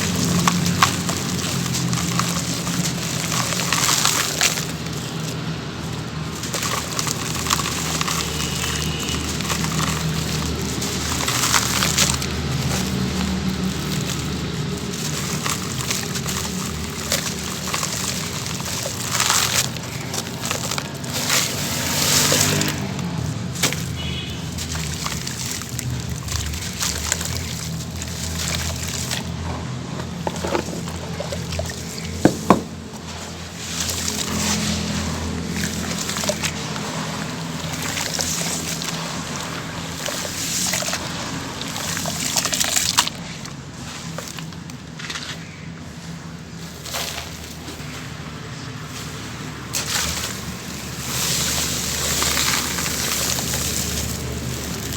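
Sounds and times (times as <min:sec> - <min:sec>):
sand-cement crumbling in water: 0:00.0 - 0:45.4, 0:46.6 - 0:54.9
water sloshing and pouring: 0:00.0 - 0:54.9.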